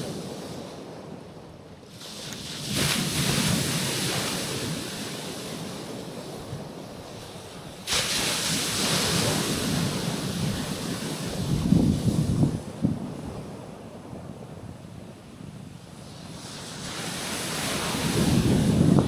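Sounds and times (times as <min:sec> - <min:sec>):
waves washing over rocks: 0:01.9 - 0:14.5, 0:16.0 - 0:19.0.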